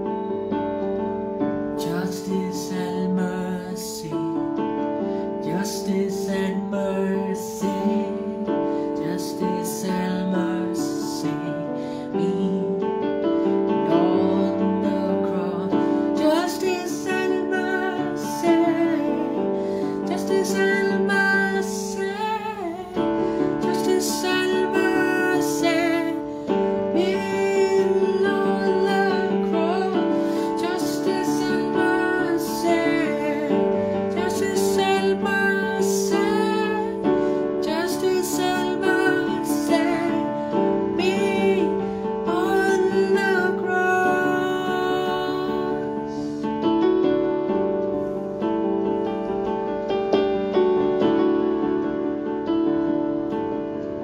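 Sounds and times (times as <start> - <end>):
slow ballad on electronic keyboard: 0.0 - 54.0.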